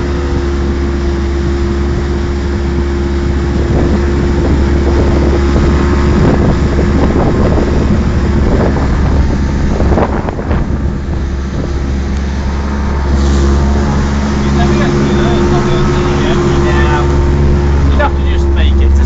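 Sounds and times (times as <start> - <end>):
outboard motor running: 0.0 - 19.0
water rushing along hull: 0.0 - 19.0
wind buffeting microphone: 0.0 - 19.0.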